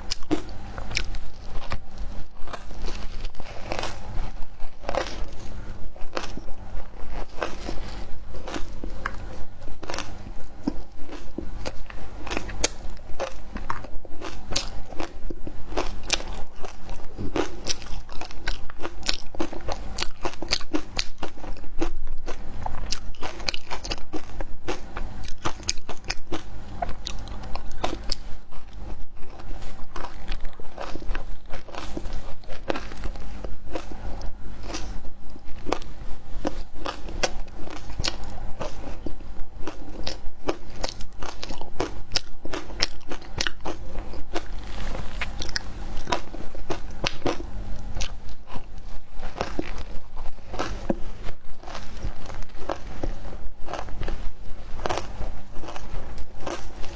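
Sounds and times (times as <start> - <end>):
ice being bitten and chewed: 0.0 - 56.9.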